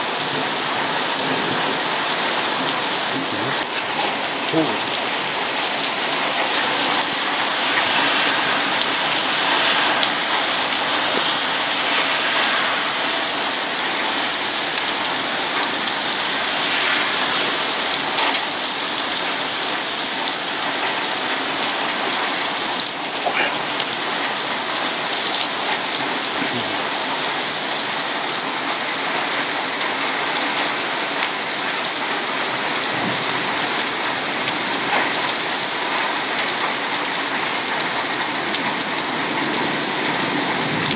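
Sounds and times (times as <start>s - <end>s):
heavy rain pouring: 0.0s - 40.9s
drops or hailstones ticking: 0.1s - 40.9s.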